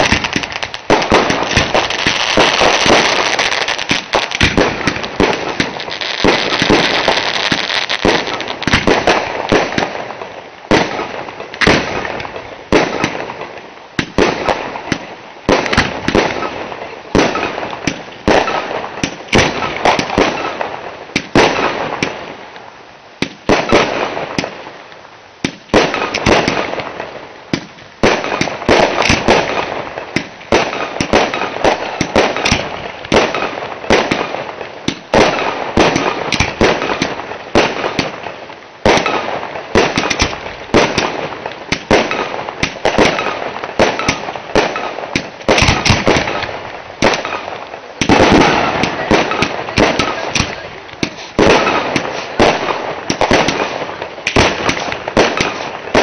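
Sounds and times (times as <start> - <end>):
fireworks bangs: 0.0 - 22.6, 23.2 - 56.0
fireworks crackling: 0.0 - 56.0.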